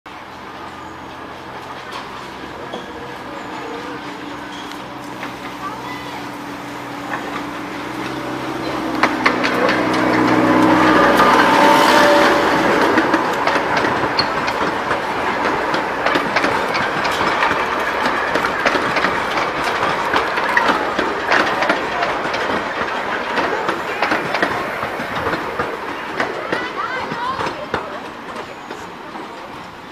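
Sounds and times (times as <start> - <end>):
diesel locomotive engine passing: 0.1 - 29.9
train wheels clickety-clack: 0.1 - 29.9.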